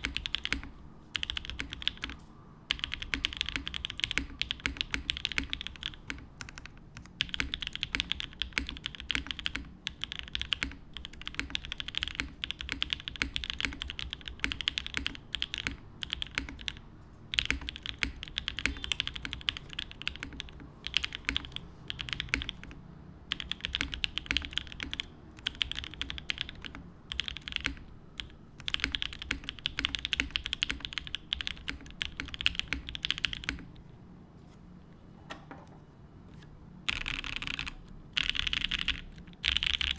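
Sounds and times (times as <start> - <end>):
mechanical keyboard typing: 0.0 - 33.8, 36.4 - 39.9.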